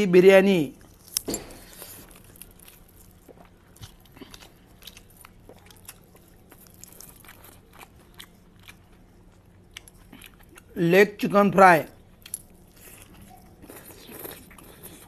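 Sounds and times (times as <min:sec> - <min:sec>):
low steady hum: 0:00.0 - 0:15.0
person chewing food: 0:00.8 - 0:10.8, 0:11.9 - 0:15.0.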